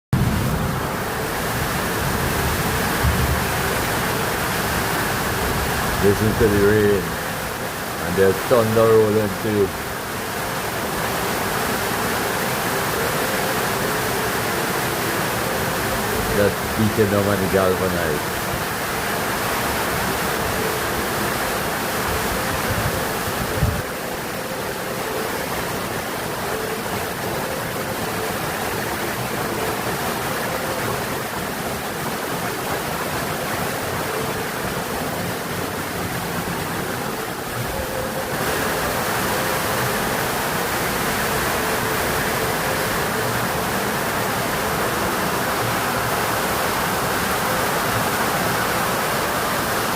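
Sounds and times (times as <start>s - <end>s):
heavy rain on a metal roof: 0.1s - 49.9s.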